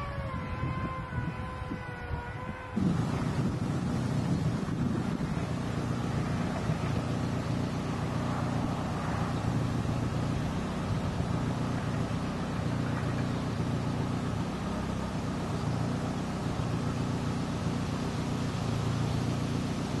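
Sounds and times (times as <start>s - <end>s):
machinery rumbling with hum tones: 0.0s - 20.0s.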